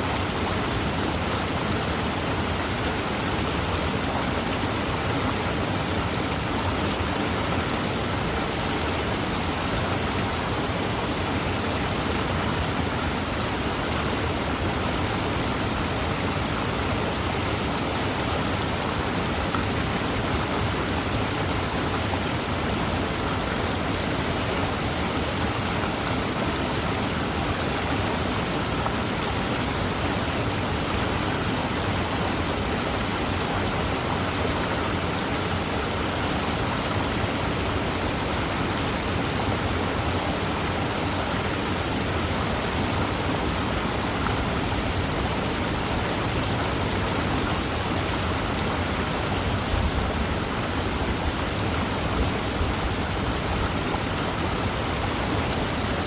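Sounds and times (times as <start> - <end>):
fast river rushing: 0.0 - 56.0.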